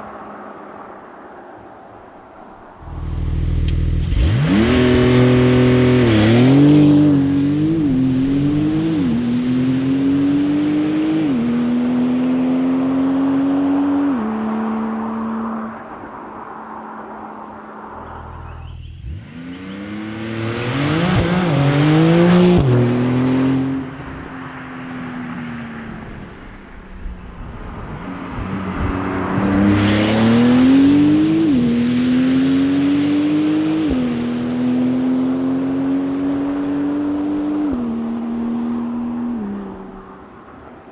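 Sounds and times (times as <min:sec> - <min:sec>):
car engine accelerating hard: 0:02.8 - 0:15.7, 0:17.8 - 0:24.6, 0:25.7 - 0:40.2.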